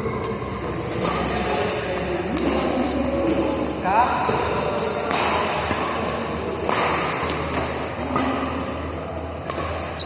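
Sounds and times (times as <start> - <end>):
racket striking shuttlecock: 0.1 - 3.6, 4.2 - 8.7, 9.4 - 10.0.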